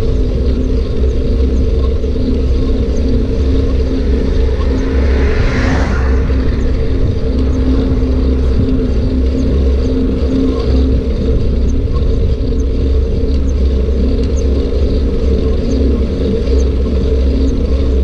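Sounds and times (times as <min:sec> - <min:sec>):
motorbike riding rumble: 0:00.0 - 0:18.0.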